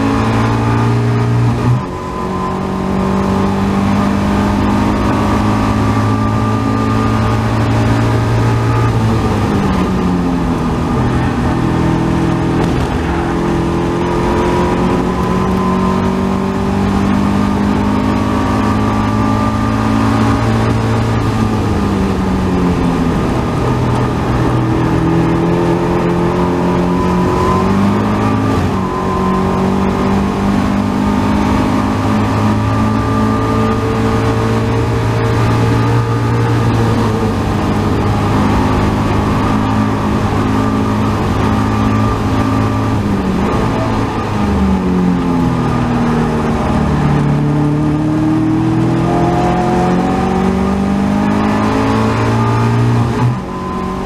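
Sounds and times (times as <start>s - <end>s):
car engine at racing speed: 0.0s - 54.0s
wind rushing over open cockpit: 0.0s - 54.0s.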